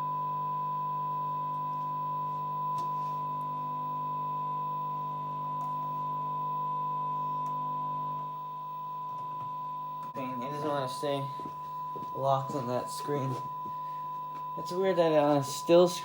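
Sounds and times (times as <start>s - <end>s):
low hum: 0.0s - 16.0s
steady test tone: 0.0s - 16.0s.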